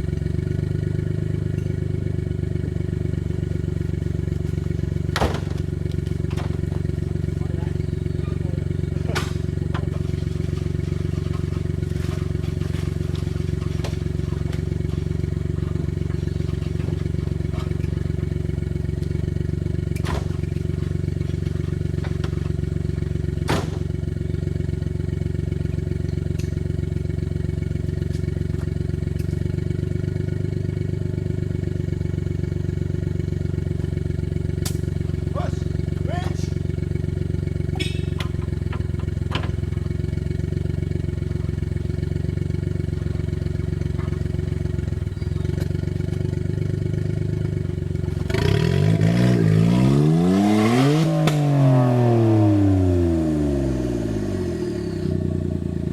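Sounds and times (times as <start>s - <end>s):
small car engine idling: 0.0s - 55.9s.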